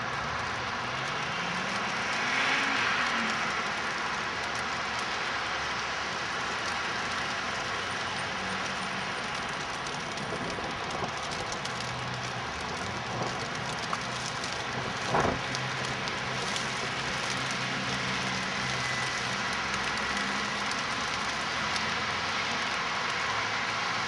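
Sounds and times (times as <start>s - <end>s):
distant traffic hum: 0.0s - 24.0s.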